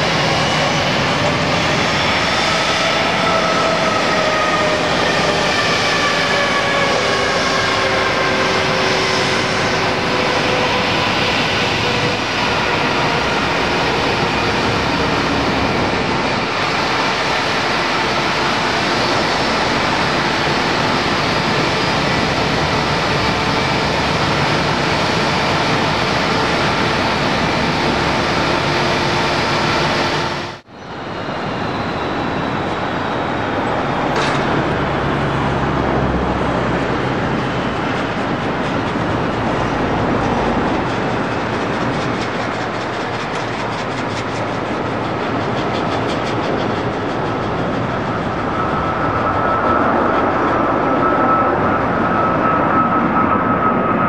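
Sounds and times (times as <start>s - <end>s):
high engine whine: 0.0s - 54.0s
jet engines roaring: 0.0s - 54.0s.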